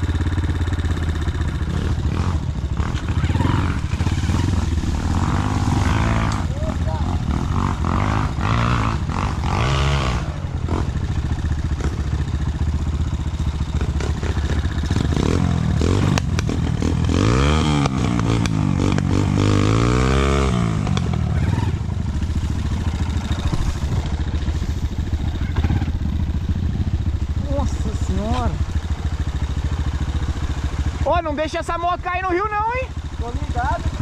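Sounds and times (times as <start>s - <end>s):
engine clatter: 0.0s - 34.0s
motorcycle engine revving: 0.0s - 34.0s.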